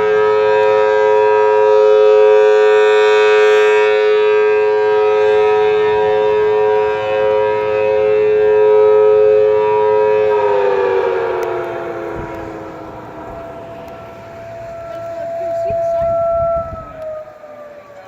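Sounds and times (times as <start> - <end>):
dual-tone tornado siren: 0.0 - 18.0.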